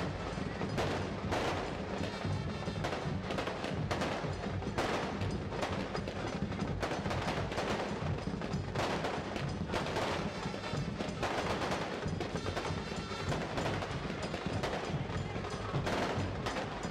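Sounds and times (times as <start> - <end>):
firecrackers cracking: 0.0 - 16.9.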